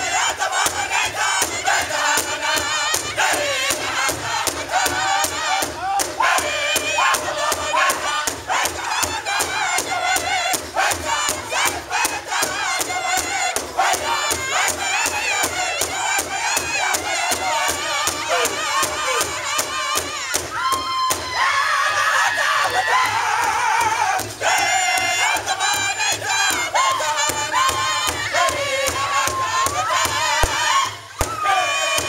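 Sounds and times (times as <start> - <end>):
large drum fast beat: 0.0 - 21.5, 22.2 - 32.0
group singing in unison: 0.0 - 32.0.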